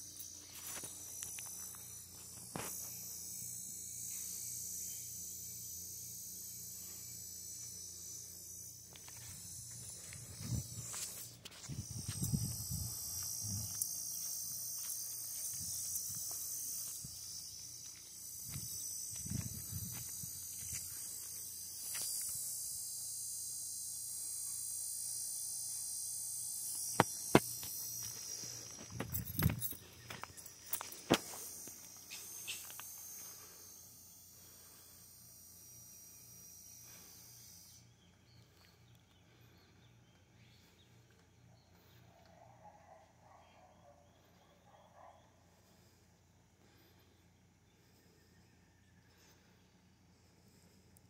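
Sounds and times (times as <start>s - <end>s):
insect chorus chirring: 0.0s - 51.0s.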